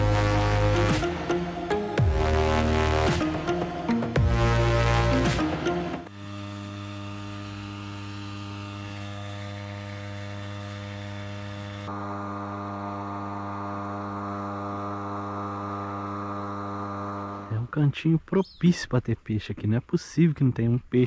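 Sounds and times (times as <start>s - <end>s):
outboard motor droning: 0.0s - 17.9s.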